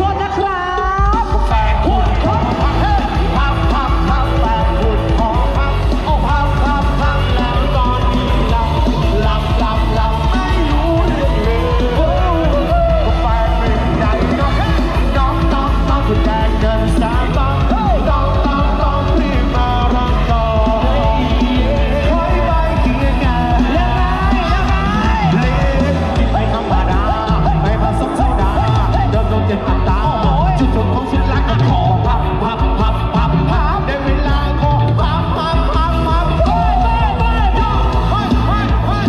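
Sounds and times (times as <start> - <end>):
music with singer over loudspeaker: 0.0 - 39.0.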